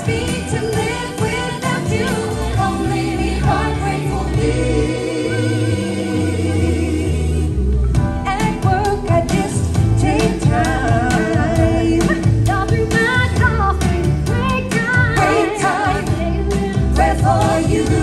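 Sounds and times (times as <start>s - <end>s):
drums and bass: 0.0s - 18.0s
live pop song singing: 0.0s - 18.0s.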